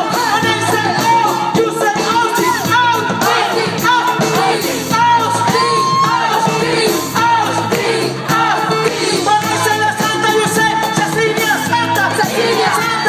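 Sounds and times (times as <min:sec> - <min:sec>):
drum kit: 0:00.0 - 0:13.0
person singing through pa: 0:00.0 - 0:13.0.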